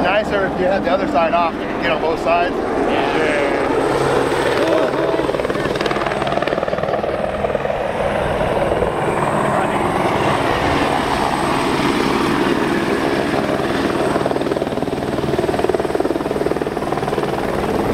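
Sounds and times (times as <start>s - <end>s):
helicopter rotor chopping: 0.0s - 17.9s.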